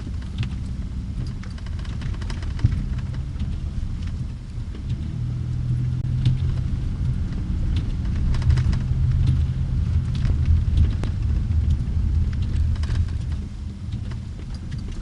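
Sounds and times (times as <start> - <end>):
motor vehicle engine rumbling: 0.0 - 15.0.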